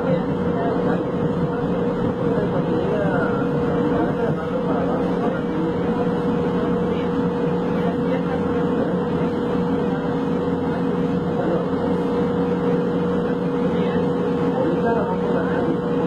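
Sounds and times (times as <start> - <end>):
constant hum: 0.0 - 16.0
train rumbling: 0.0 - 16.0.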